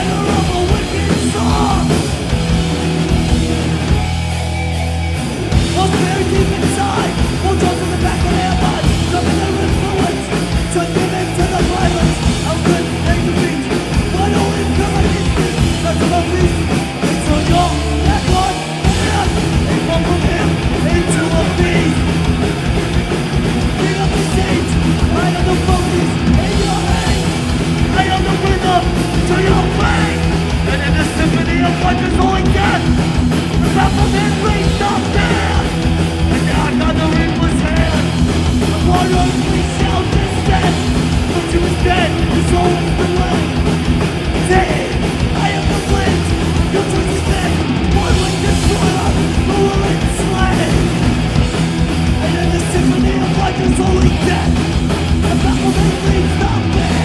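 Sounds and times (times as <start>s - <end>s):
bass guitar: 0.0s - 57.0s
distorted electric guitars: 0.0s - 57.0s
pounding drums: 0.0s - 57.0s.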